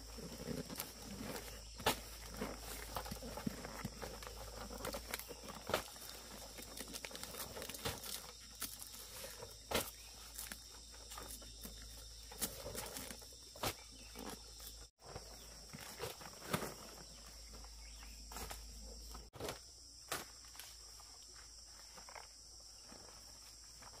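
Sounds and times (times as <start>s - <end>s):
high insect hum: 0.0s - 24.0s
rustling vegetation: 0.0s - 24.0s.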